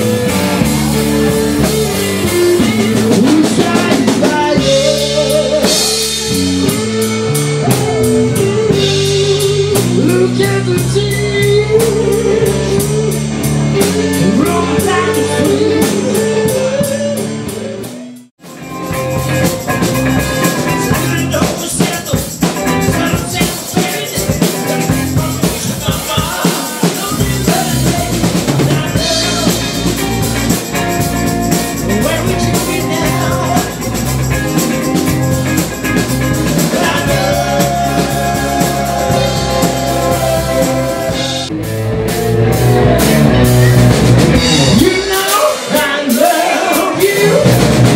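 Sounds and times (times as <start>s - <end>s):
person singing: 0.0s - 18.1s, 20.3s - 30.4s, 31.8s - 33.9s, 36.5s - 41.5s, 42.2s - 47.8s
electric guitar: 0.0s - 45.9s
drum kit: 0.0s - 47.9s.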